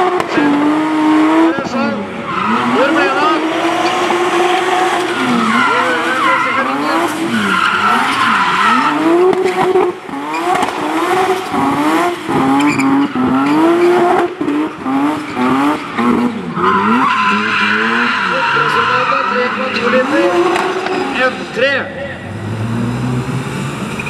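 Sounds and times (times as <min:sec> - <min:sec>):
car engine revving hard: 0:00.0 - 0:24.0
tyres squealing: 0:01.4 - 0:22.4.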